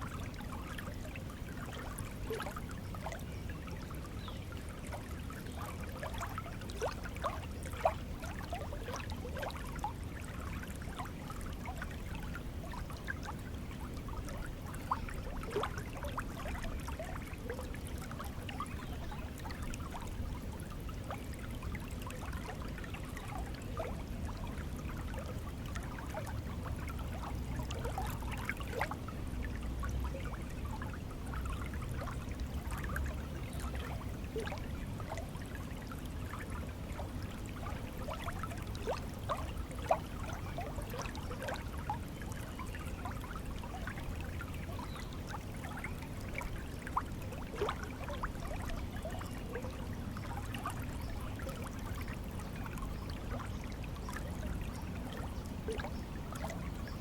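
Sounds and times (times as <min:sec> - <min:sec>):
small water splash: 0:00.0 - 0:57.0
stream water trickling: 0:00.0 - 0:57.0.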